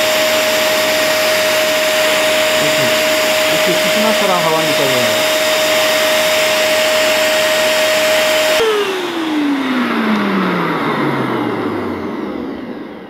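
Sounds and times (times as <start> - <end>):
handheld vacuum cleaner motor whine: 0.0 - 13.0.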